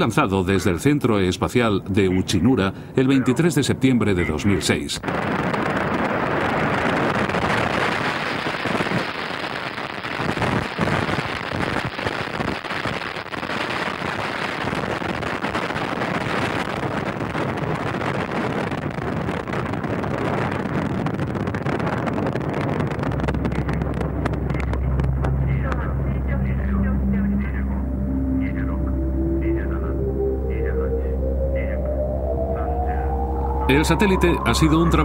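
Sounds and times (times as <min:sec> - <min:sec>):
rocket exhaust crackling: 0:05.0 - 0:35.0.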